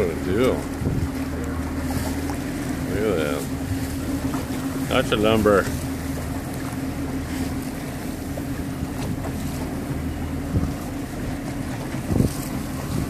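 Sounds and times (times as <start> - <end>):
boat engine running: 0.0 - 13.0
choppy water hissing: 0.0 - 13.0
wind buffeting microphone: 0.0 - 13.0.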